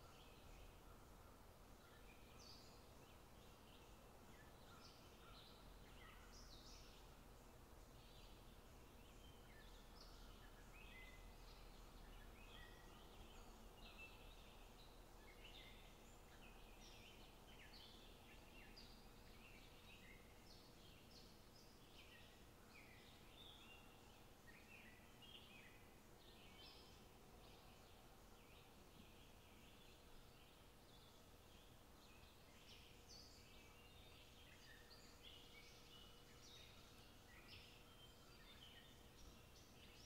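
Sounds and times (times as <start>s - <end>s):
faint birds chirping: 0.0s - 40.0s.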